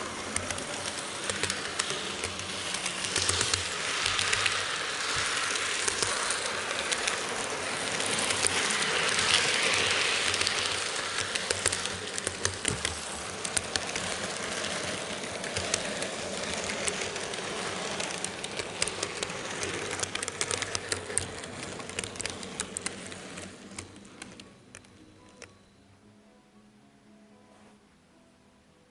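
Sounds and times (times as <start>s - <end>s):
model train wheels rattling: 0.0s - 25.4s.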